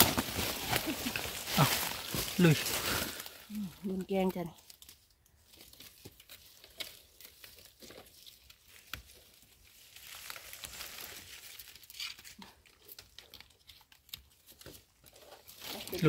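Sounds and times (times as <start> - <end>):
dry leaves rustling and snapping: 0.0 - 16.0.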